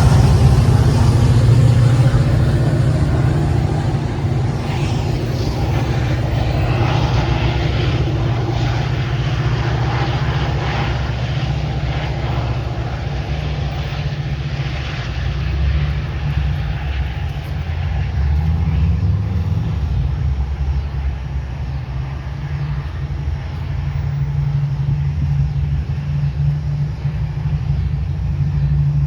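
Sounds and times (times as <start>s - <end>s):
diesel train engine drone: 0.0s - 29.0s
train rolling noise: 0.0s - 29.0s.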